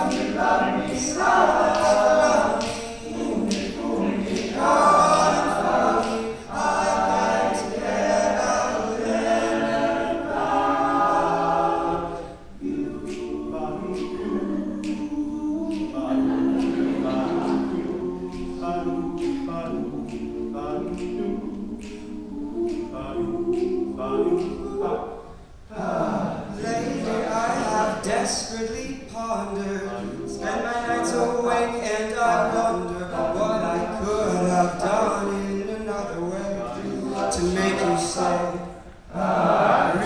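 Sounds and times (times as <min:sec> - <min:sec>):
male a cappella harmony singing: 0:00.0 - 0:40.0
vocal percussion beat: 0:00.0 - 0:40.0.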